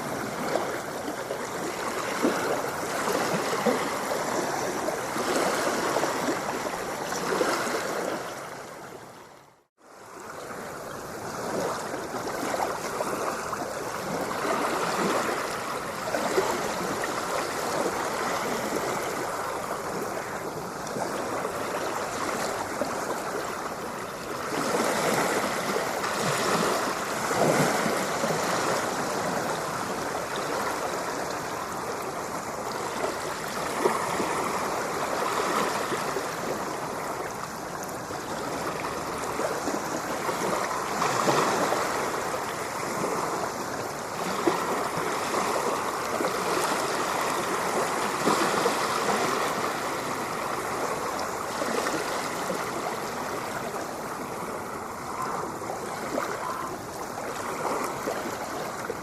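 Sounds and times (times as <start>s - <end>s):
rushing splashing water: 0.0s - 59.0s.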